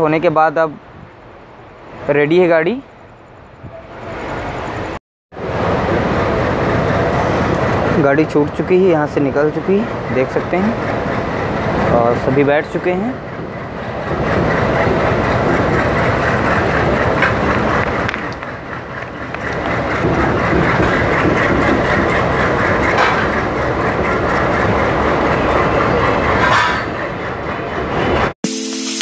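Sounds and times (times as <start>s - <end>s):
train wheels rumbling on rails: 3.6s - 28.4s.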